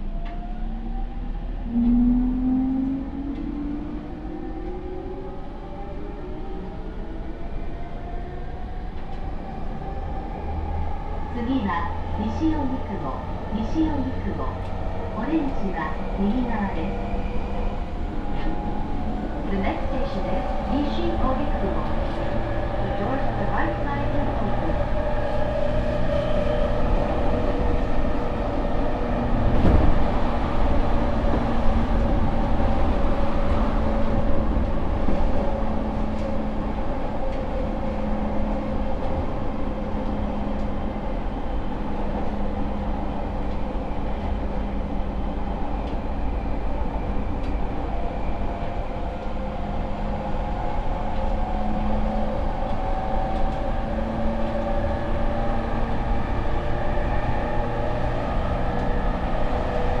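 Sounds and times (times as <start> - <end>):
wheels rumbling on rail: 8.1 - 60.0.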